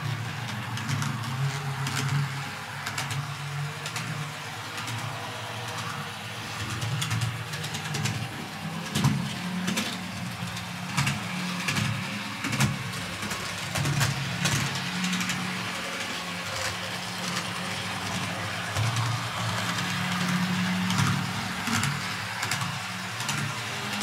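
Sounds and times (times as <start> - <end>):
model train motor hum: 0.0 - 24.0
wheels clicking on track: 0.0 - 24.0.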